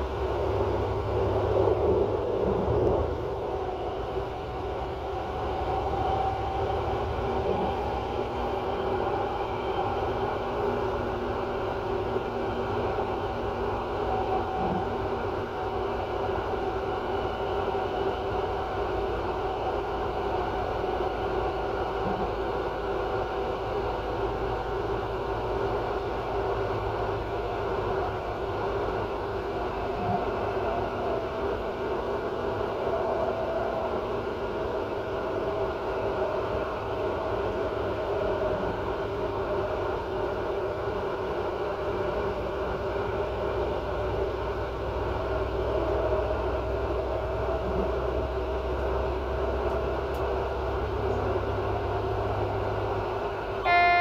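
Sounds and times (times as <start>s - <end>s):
train rumble and hum: 0.0s - 54.0s.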